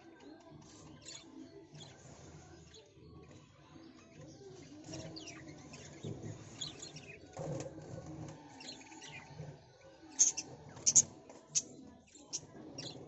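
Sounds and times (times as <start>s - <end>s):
birds chirping: 0.0s - 7.5s, 8.4s - 13.0s.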